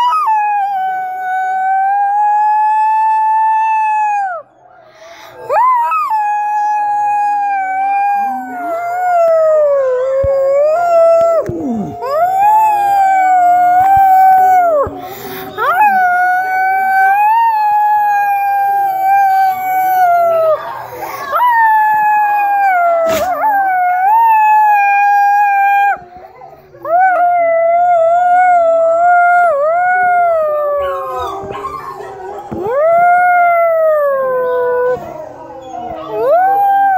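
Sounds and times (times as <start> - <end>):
dog howling: 5.5 - 36.9.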